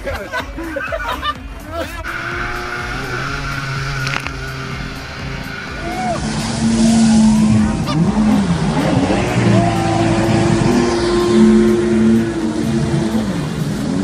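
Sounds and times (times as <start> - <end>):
jet ski engine revving: 2.0 - 14.0
water spray rushing: 2.0 - 14.0.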